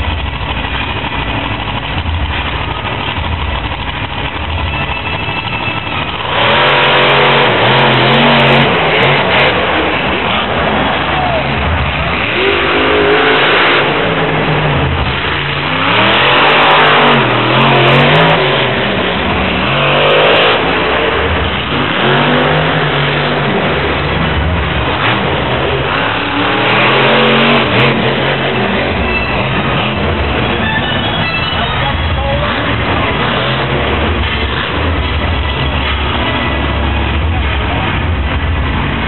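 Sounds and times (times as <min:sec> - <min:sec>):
monster truck engines revving: 0:00.0 - 0:39.0.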